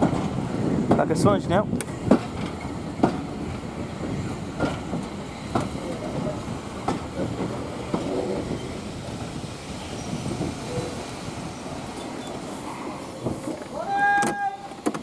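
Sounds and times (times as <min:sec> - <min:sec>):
train wheels rumbling on track: 0:00.0 - 0:15.0
wheels clicking over rail joints: 0:00.0 - 0:15.0.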